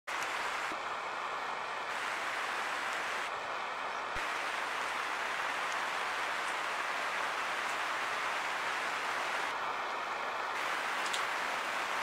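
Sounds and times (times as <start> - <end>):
steady rain: 0.1 - 12.0.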